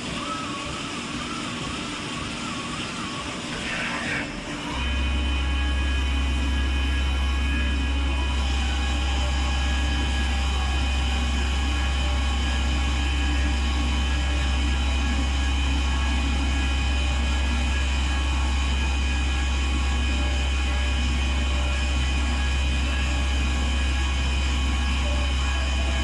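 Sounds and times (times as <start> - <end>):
lathes humming: 0.0 - 26.0
steady higher machine tones: 0.0 - 26.0.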